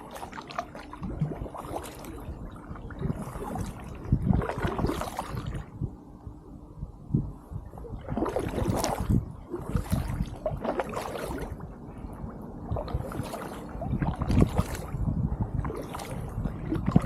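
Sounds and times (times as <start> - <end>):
paddle strokes splashing water: 0.0 - 5.7, 7.8 - 17.0
steady low rumble: 0.0 - 17.0.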